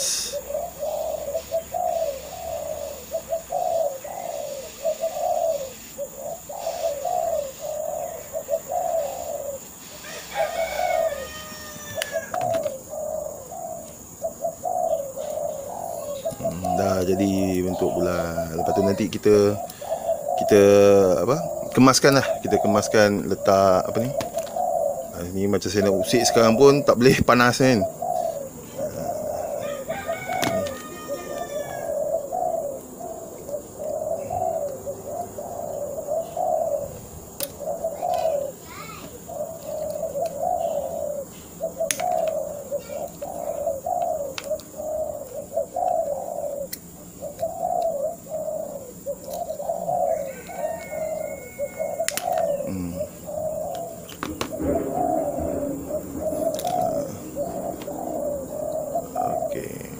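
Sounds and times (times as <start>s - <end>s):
doves cooing: 0.0s - 59.9s
small birds chirping: 0.0s - 59.9s.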